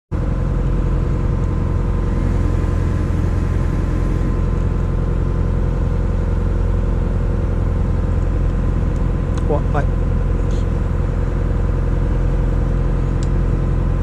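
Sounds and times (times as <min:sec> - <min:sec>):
boat engine droning: 0:00.1 - 0:14.0.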